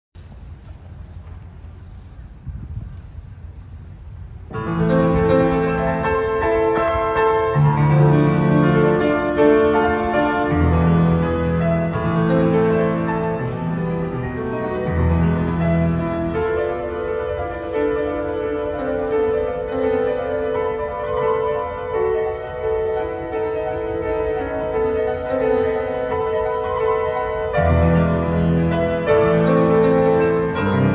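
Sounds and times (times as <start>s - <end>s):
slow piano piece: 4.4s - 30.9s.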